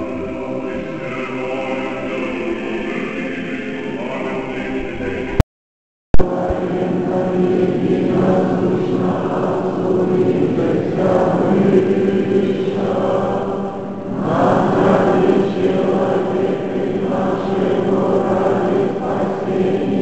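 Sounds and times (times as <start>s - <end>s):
church choir chanting: 0.0s - 5.4s, 6.2s - 20.0s.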